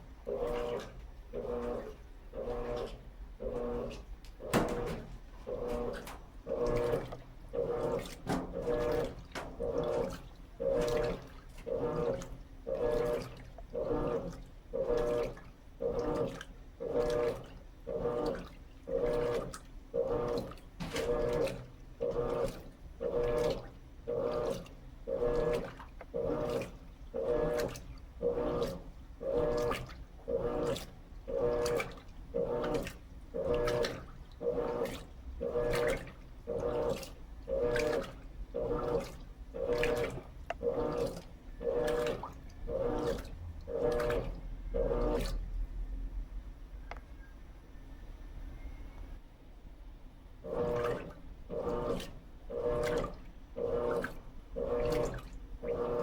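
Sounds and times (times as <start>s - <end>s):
water sloshing: 0.0s - 45.8s, 50.4s - 56.0s
washing machine motor hum: 0.0s - 56.0s.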